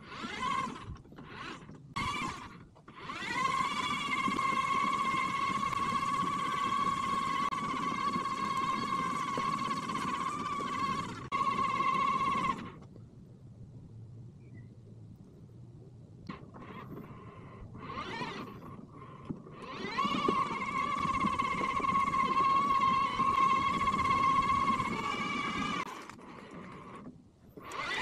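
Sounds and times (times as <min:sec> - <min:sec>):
electric motors whining: 0:00.0 - 0:12.9, 0:16.3 - 0:28.0.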